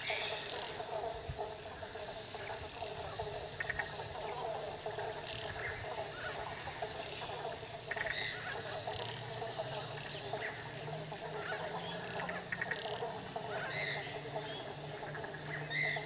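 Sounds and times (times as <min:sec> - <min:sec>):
birds calling: 0:00.0 - 0:16.0
frogs chorus: 0:00.0 - 0:16.0.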